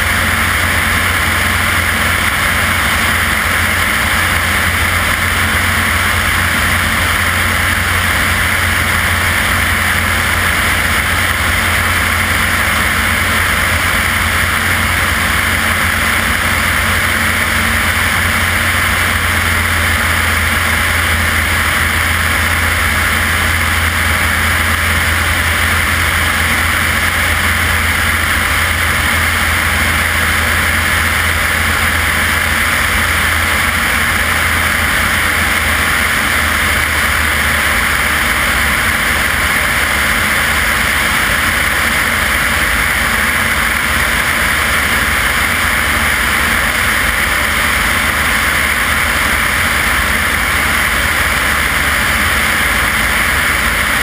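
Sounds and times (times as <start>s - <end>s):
propeller aircraft engine droning: 0.0s - 54.0s.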